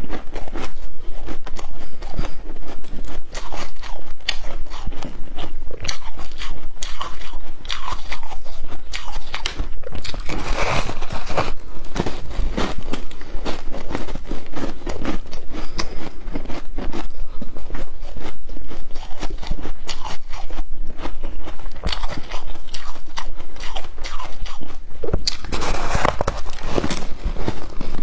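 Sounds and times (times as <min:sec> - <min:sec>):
chewing ice crunches: 0:00.0 - 0:28.0.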